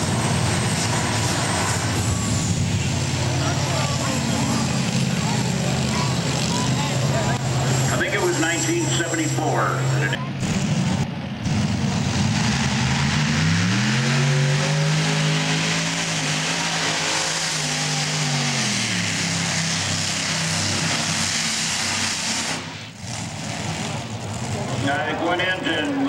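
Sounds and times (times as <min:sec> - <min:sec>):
tractor engine at full throttle: 0:00.0 - 0:26.0.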